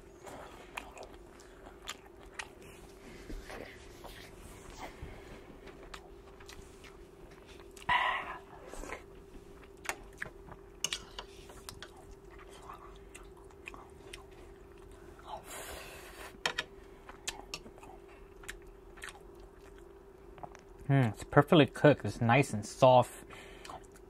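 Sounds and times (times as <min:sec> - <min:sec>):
chewing soft food: 0:00.0 - 0:21.2, 0:23.3 - 0:24.0.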